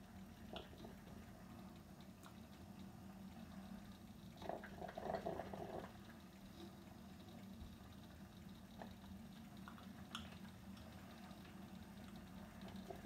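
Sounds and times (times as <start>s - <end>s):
coffee maker bubbling and sputtering: 0.0s - 13.0s
low steady hum: 0.0s - 13.0s.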